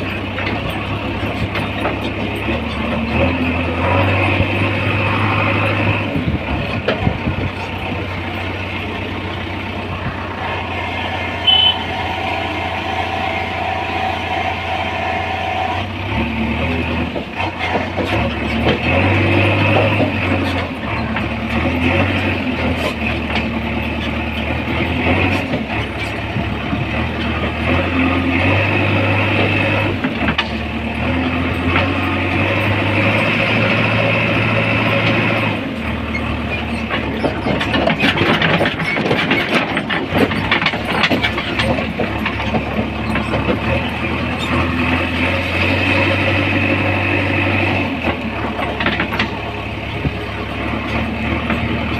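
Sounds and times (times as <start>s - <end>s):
rattling and clatter: 0.0s - 13.0s, 15.9s - 51.9s
diesel engine revving: 0.0s - 51.9s.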